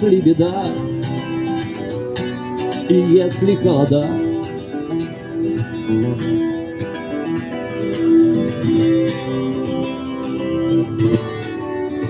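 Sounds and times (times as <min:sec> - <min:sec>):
guitar playing: 0:00.0 - 0:12.0.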